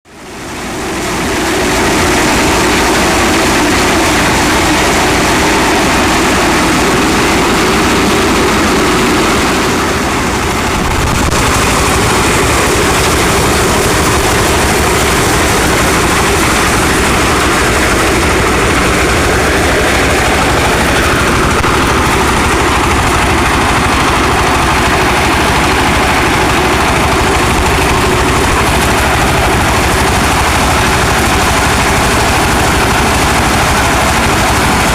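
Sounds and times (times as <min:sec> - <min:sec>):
heavy farm machinery running: 0:00.1 - 0:34.9.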